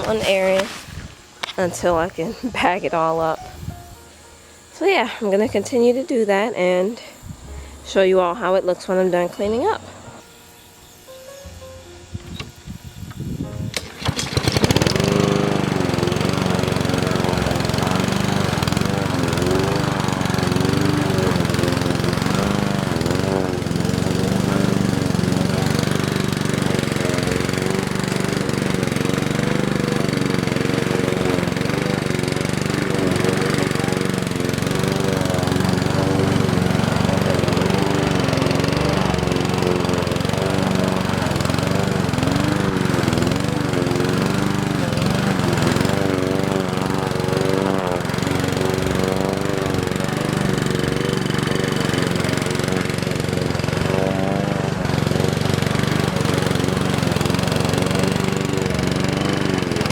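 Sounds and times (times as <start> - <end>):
grass cutter engine running: 0.0 - 59.9.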